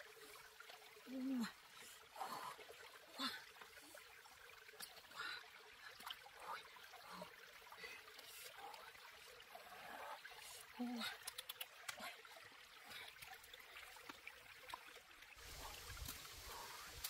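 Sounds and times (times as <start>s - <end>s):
faint trickling water: 0.0s - 17.0s
small clicks and splashes: 0.0s - 17.0s.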